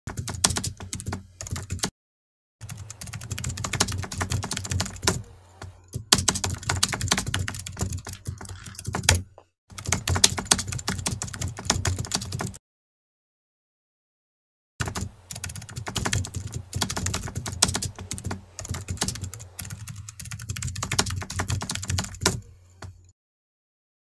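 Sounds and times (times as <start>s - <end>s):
fast keyboard typing: 0.1s - 1.9s, 2.6s - 12.6s, 14.8s - 23.0s.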